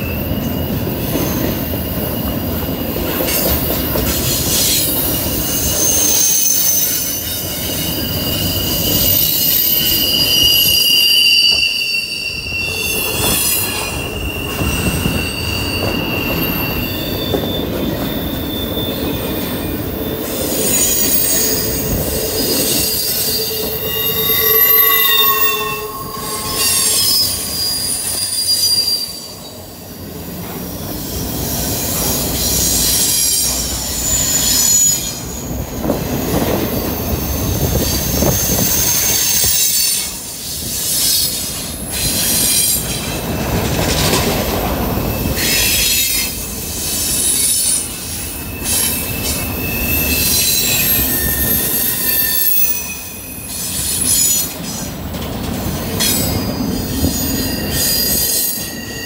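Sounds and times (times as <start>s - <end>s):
wheel squeals: 0.0s - 29.9s, 30.7s - 59.0s
train wheels rumbling on rail: 0.0s - 59.0s.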